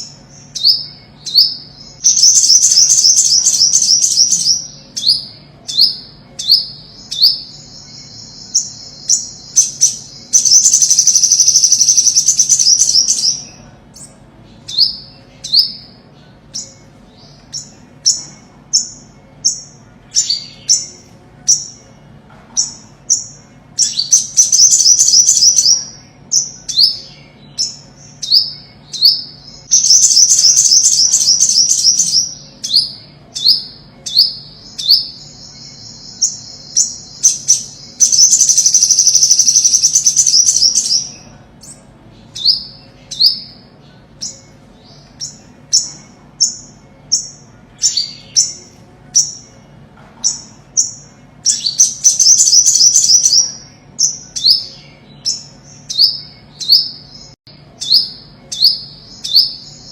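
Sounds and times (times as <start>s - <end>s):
sunbird singing chip notes and trills: 0.0s - 59.9s.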